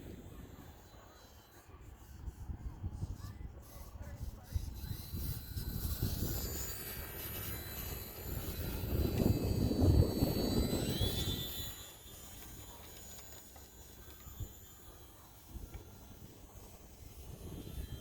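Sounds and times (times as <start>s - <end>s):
wind rumble on microphone: 0.0s - 0.9s, 1.9s - 12.8s, 15.4s - 18.0s
model airplane motor whining: 0.0s - 18.0s.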